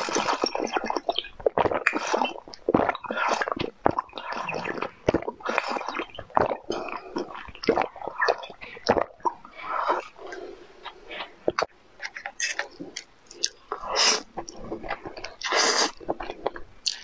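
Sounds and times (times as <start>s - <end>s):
mouth clicks: 0.0s - 17.0s
wet slurping through a spout: 0.0s - 17.0s.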